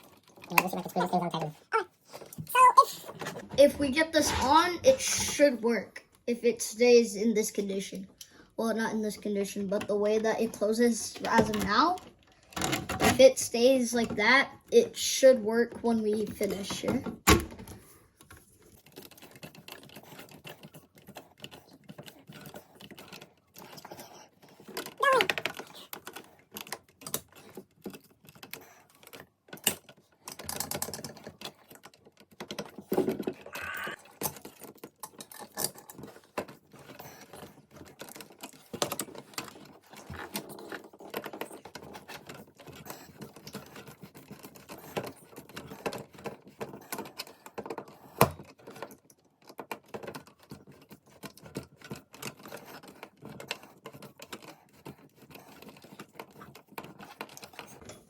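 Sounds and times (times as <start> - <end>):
small clicks taps and rattles: 0.0 - 4.0, 5.3 - 58.0.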